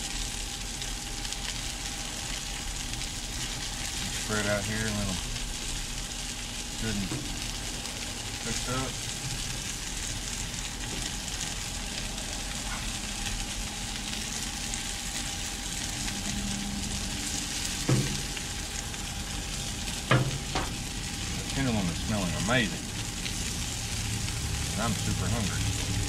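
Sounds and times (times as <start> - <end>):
mushrooms sizzling in oil: 0.0 - 26.0.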